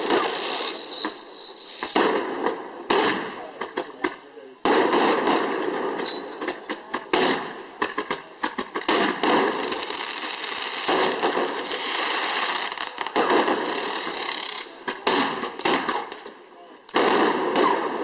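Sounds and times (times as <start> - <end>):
fireworks cracking and popping: 0.0 - 18.0
fireworks hissing crackling bursts: 0.0 - 18.0.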